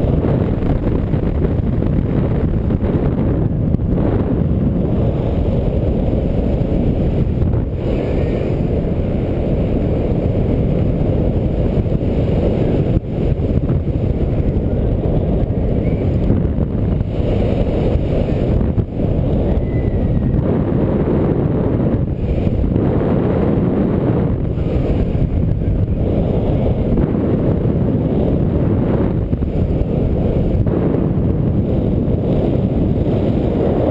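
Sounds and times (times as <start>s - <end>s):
wind noise on microphone: 0.0s - 33.9s.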